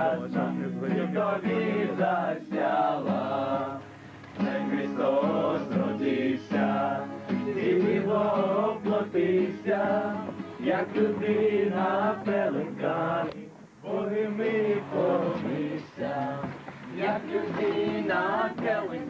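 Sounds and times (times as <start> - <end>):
strummed acoustic guitar: 0.0 - 13.4, 14.1 - 19.0
group singing a carol: 0.0 - 19.0.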